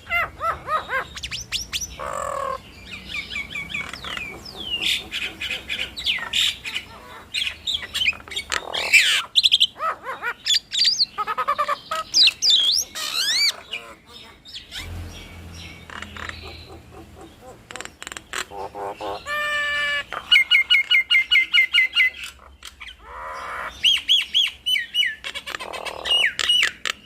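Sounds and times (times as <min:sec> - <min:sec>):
starlings calling: 0:00.0 - 0:27.0.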